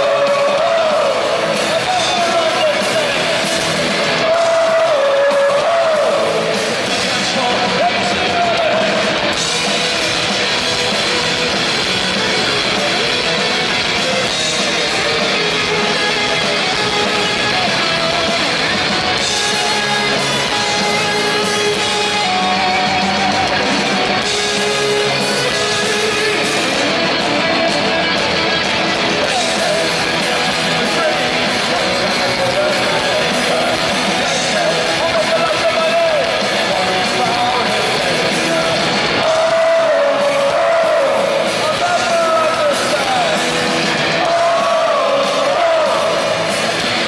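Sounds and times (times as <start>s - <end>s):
live punk rock band: 0.0s - 47.0s.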